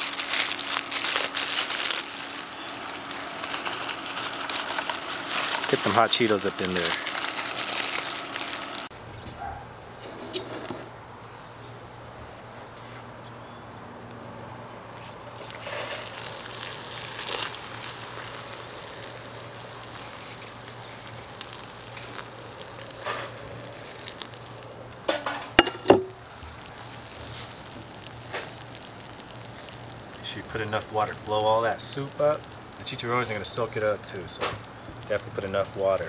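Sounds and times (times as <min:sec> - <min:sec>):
fizzing crackle of soaking snacks: 0:00.0 - 0:08.9, 0:14.9 - 0:36.0
hot water pouring into tub: 0:00.0 - 0:08.9, 0:15.2 - 0:36.0.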